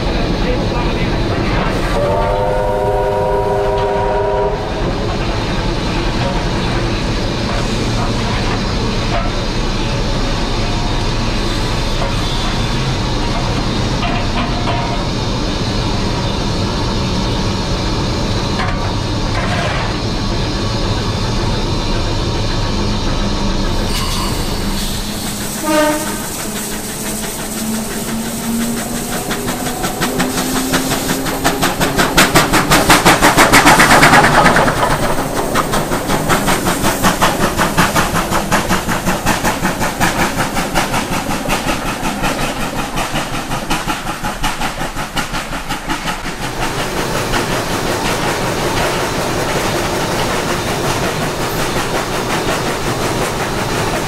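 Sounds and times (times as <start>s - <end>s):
steam locomotive exhaust beats: 0.0s - 54.0s
train wheels on rail: 0.0s - 54.0s.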